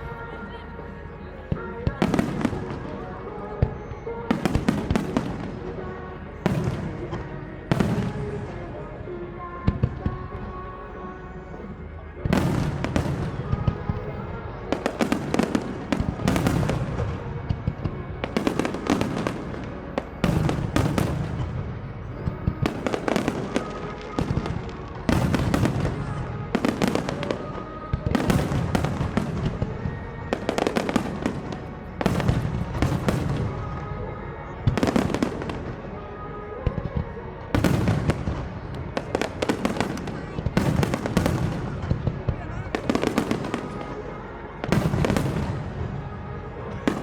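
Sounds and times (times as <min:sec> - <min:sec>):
fireworks booming and crackling: 0:01.5 - 0:08.9, 0:12.0 - 0:36.0, 0:36.6 - 0:47.0.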